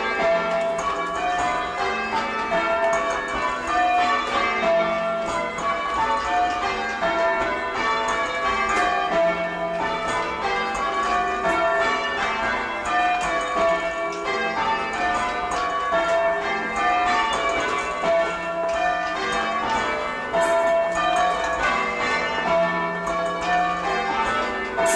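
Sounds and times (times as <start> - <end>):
church bells ringing: 0.0 - 24.9.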